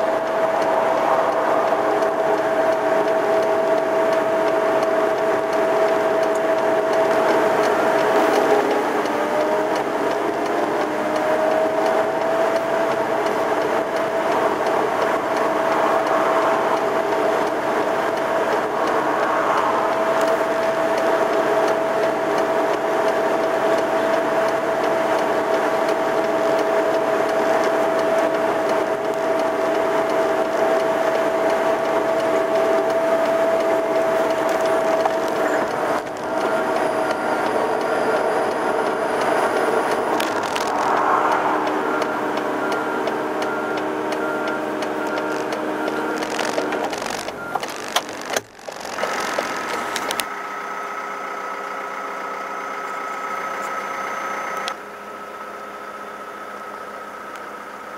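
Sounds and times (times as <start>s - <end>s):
road sweeper engine and brushes: 0.0s - 50.8s
steady high whine: 0.0s - 57.5s.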